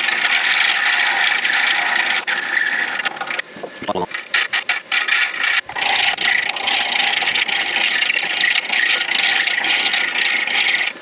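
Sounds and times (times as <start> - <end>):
lathe tool scraping plastic: 0.0 - 11.0.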